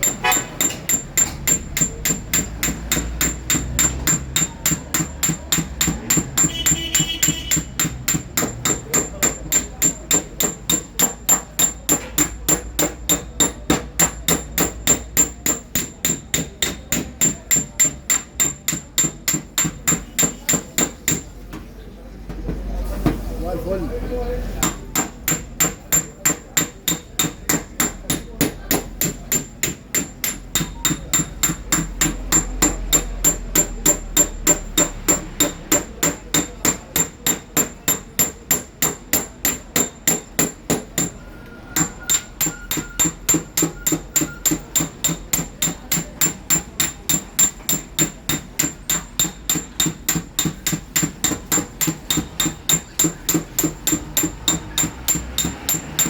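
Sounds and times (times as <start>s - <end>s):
hammer tapping on sheet metal: 0.0s - 21.7s, 24.6s - 56.0s.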